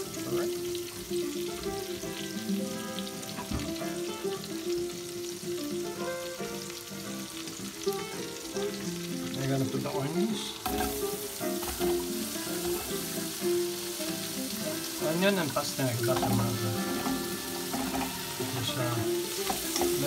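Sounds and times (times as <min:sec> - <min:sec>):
butter sizzling in a pot: 0:00.0 - 0:20.0.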